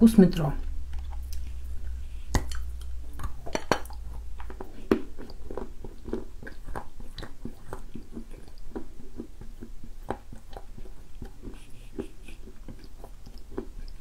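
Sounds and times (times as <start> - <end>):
wet chewing clicks and crackles: 0.6 - 14.0.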